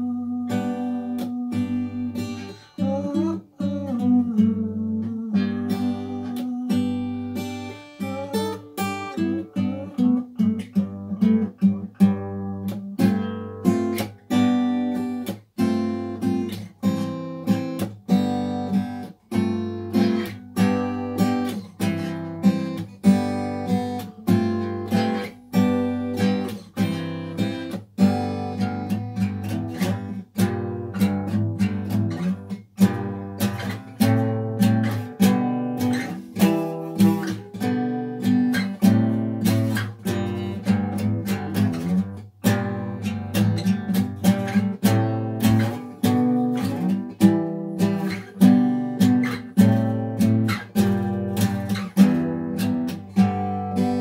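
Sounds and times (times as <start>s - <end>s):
acoustic guitar chords: 0.0s - 54.0s.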